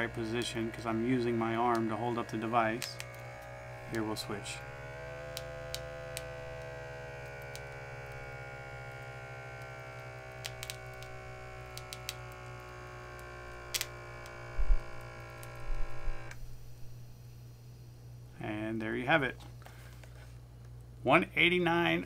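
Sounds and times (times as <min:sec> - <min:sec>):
small electric air pump running: 0:00.0 - 0:20.4.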